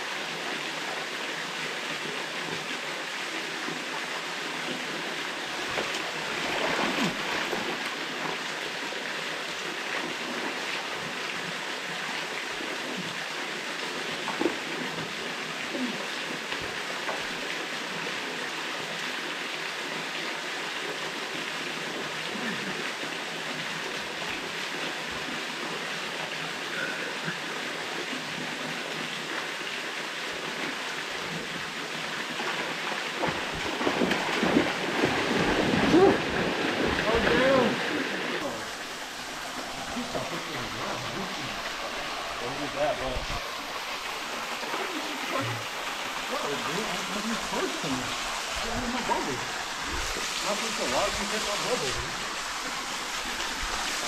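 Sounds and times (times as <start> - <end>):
waterfall pouring into pool: 0.0 - 54.0.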